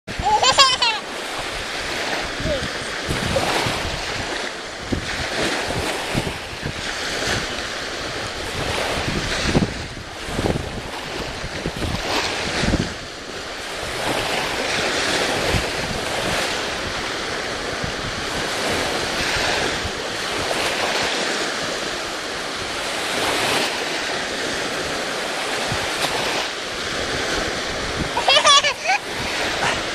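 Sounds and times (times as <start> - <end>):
ocean surf washing in: 0.1 - 29.9
wind gusting on microphone: 0.1 - 29.9.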